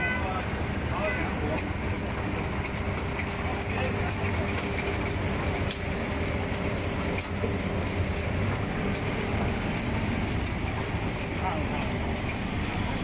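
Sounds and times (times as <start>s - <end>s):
conveyor machinery humming: 0.0s - 13.0s.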